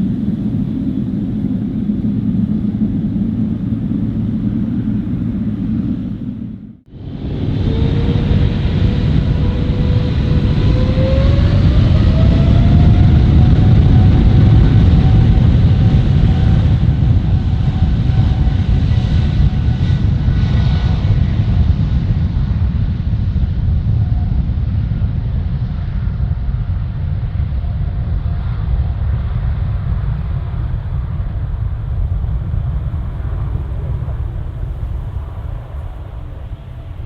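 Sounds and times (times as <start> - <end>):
faint jet whine: 0.0 - 37.0
jet engine rumble: 0.0 - 37.0.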